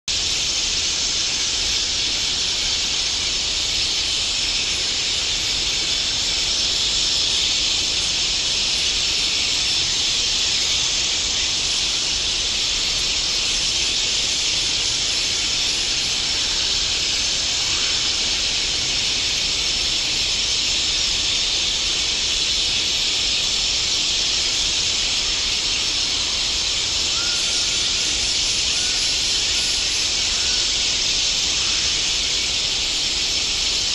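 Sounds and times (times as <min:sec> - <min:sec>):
steady hiss: 0:00.1 - 0:33.9.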